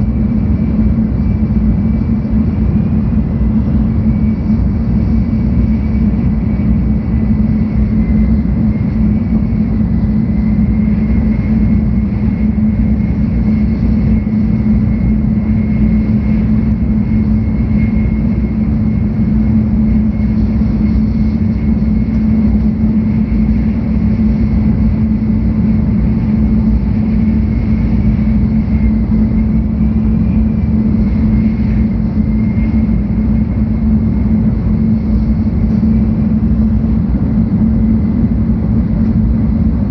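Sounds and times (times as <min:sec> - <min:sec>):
train cabin rumble: 0:00.0 - 0:39.9.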